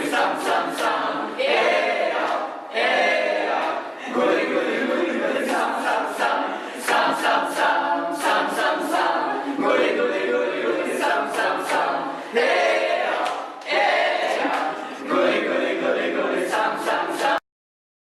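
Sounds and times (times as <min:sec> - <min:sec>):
choir singing a capella: 0:00.0 - 0:17.4.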